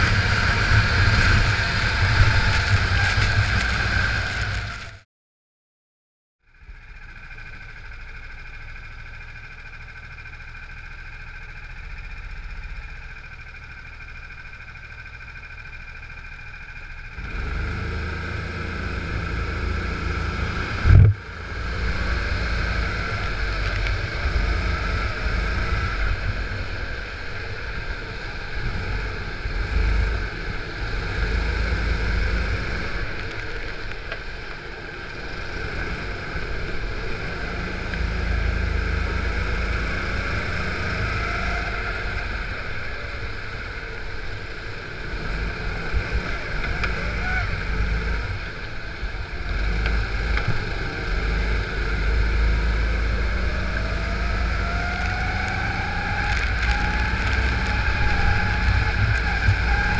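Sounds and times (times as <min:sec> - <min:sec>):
go-kart engine: 0:00.0 - 0:05.0, 0:06.4 - 0:59.9.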